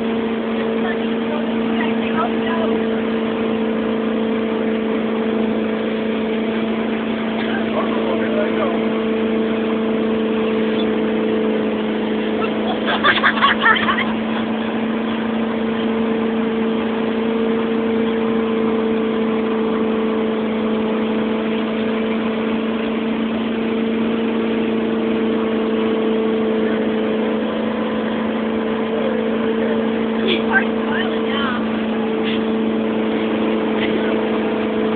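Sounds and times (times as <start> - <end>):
motorboat engine drone: 0.0 - 34.9
water rushing: 0.0 - 34.9.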